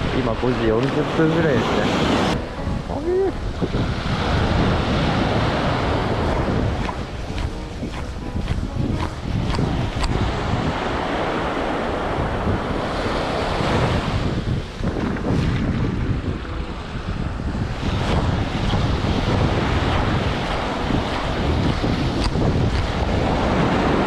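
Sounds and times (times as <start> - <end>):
waves breaking on beach: 0.0 - 24.0
wind buffeting microphone: 0.0 - 24.0.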